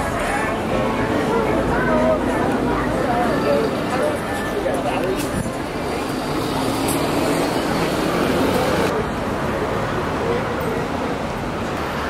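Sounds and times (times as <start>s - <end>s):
passers-by talking: 0.0s - 12.0s
road traffic noise: 0.0s - 12.0s.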